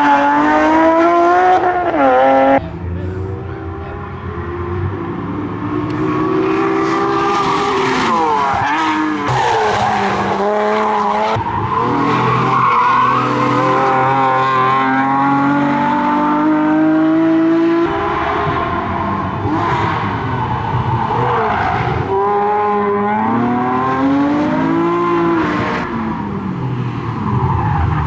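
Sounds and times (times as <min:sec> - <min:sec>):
car engine revving hard: 0:00.0 - 0:28.0.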